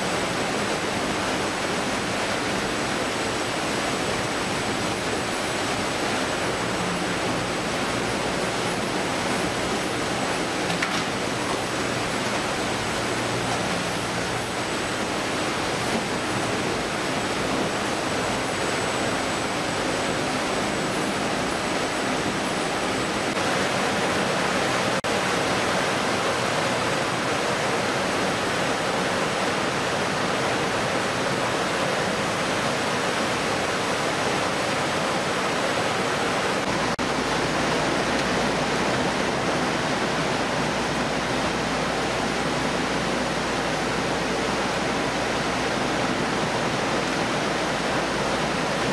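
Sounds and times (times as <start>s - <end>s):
water flowing through channels: 0.0s - 48.9s.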